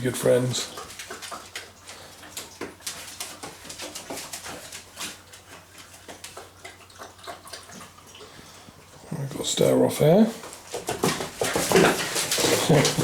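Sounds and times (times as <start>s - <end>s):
paws scuffling and clicking: 0.3s - 8.5s, 10.3s - 13.0s.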